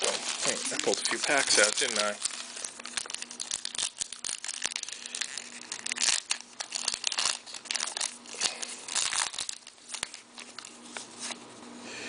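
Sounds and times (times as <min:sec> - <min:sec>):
foil wrappers crinkling and tearing: 0:00.0 - 0:11.4.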